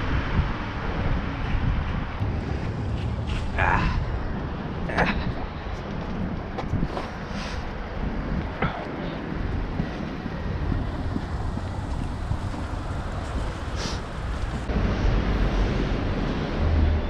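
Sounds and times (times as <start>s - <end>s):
road noise: 0.0s - 17.0s
wind rumble: 0.0s - 17.0s.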